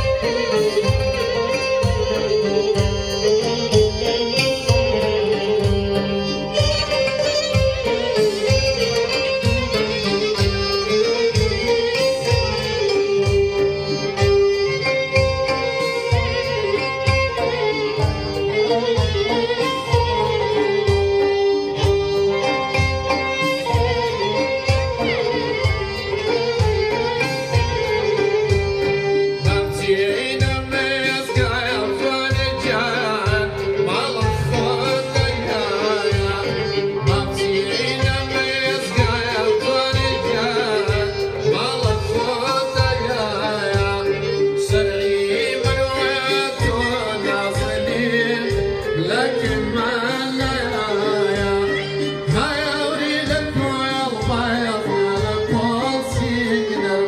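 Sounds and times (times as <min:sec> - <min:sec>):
keyboard: 0:00.0 - 0:57.0
man singing with vibrato: 0:00.0 - 0:57.0
oud: 0:00.0 - 0:57.0
violins playing melody: 0:00.0 - 0:57.0
zither: 0:00.0 - 0:57.0.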